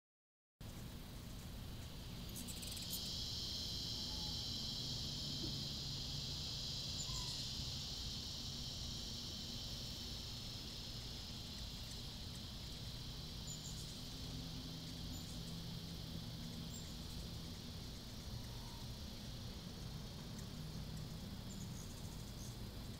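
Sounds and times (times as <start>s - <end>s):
insects droning: 0.6s - 22.9s
low steady hum: 0.6s - 22.9s.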